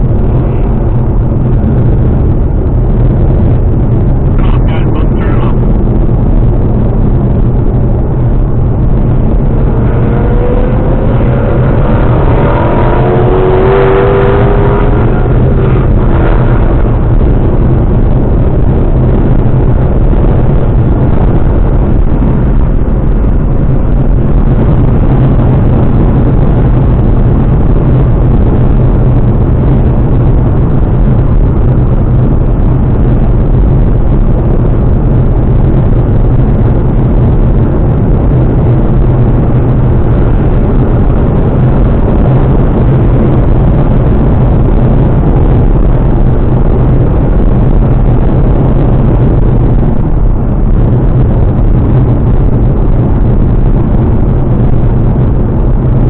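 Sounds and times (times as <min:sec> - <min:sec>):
loud car engine: 0:00.0 - 0:56.0
road noise: 0:00.0 - 0:56.0.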